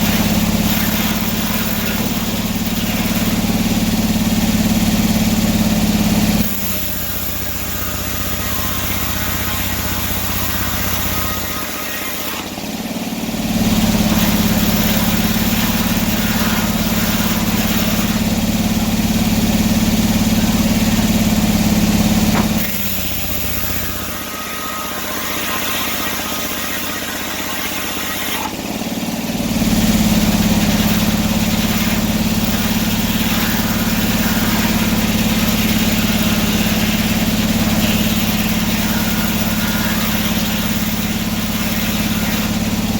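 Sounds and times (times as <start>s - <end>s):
sawmill engine and machinery running: 0.0s - 42.9s.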